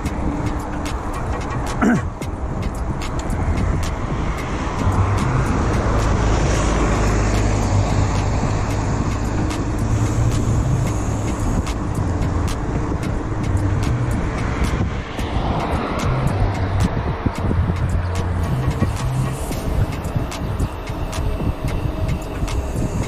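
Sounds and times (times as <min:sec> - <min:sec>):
low rumble of road traffic: 0:00.0 - 0:23.0.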